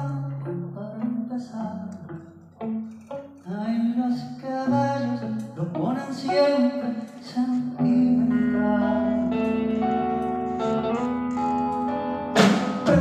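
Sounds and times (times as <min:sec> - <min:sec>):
electric guitar: 0:00.0 - 0:13.0.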